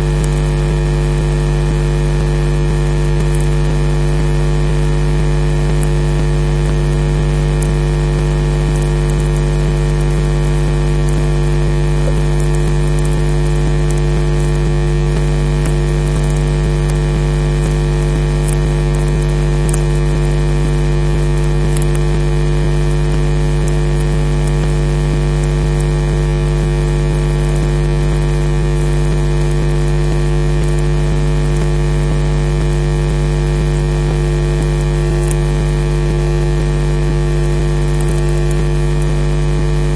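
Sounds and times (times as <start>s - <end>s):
electrical hum: 0.0s - 39.9s
faint crackles: 0.0s - 39.9s.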